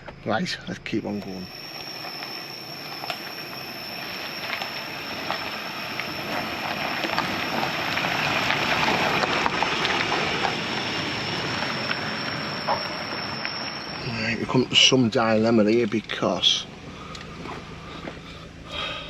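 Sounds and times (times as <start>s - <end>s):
truck tyres rumbling on dirt track: 1.0s - 19.0s.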